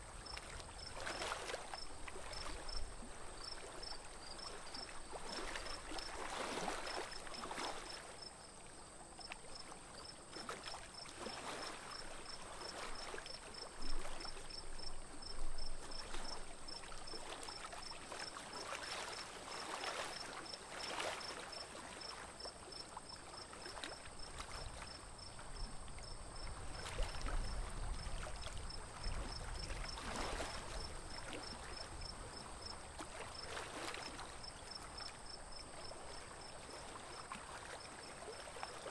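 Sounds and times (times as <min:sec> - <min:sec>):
paddle splashing water: 0:00.0 - 0:08.2, 0:09.1 - 0:38.9.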